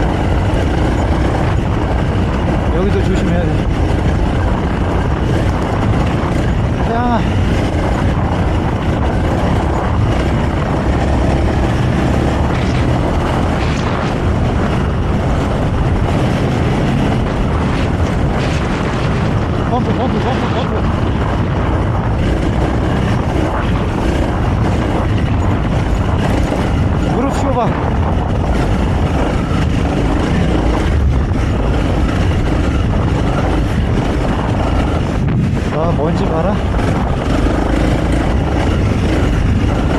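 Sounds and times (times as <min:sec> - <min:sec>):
motorcycle engine running: 0:00.0 - 0:39.9
riding noise rush: 0:00.0 - 0:39.9
wind: 0:00.0 - 0:39.9.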